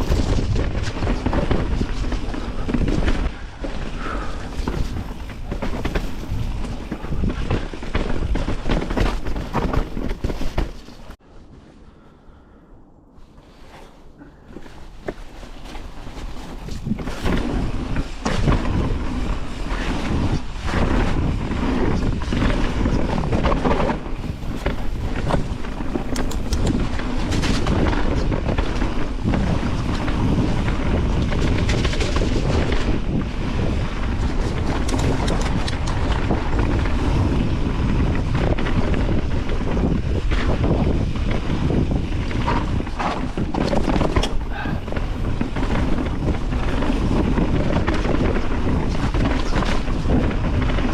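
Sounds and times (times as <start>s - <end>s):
bike tyres rumbling over dirt: 0.0s - 11.2s, 13.2s - 50.9s
wind buffeting microphone: 0.0s - 11.2s, 14.0s - 50.9s.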